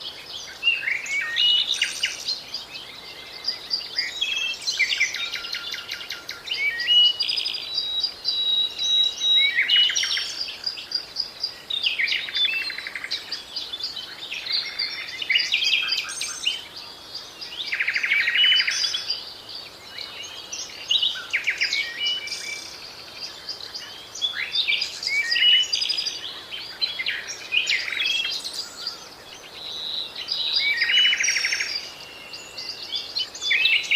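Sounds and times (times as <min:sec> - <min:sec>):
songbirds chirping and trilling: 0:00.0 - 0:33.9.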